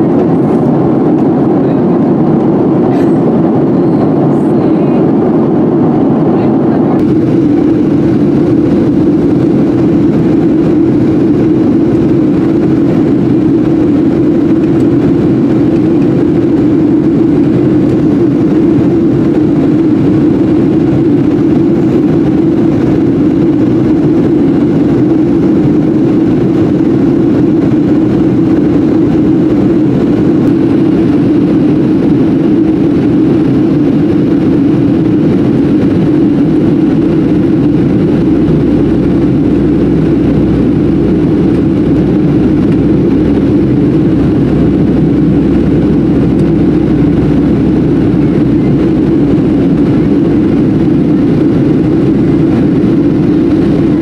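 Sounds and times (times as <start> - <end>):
aircraft cabin engine and airflow noise: 0.0 - 54.0.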